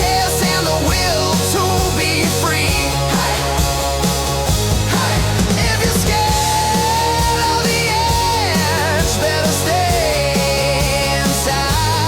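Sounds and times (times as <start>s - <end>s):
rock band playing: 0.0s - 12.0s
steady drum beat: 0.0s - 12.0s.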